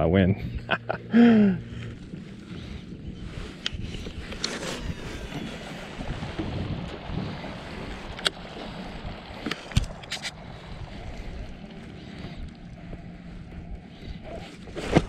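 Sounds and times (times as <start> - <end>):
wind: 0.0 - 15.0
water noise: 0.6 - 15.0.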